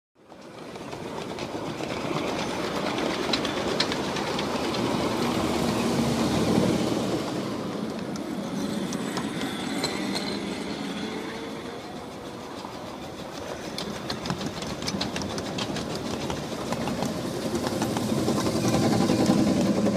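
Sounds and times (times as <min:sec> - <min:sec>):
model steam train wheels rumbling: 0:00.2 - 0:19.9.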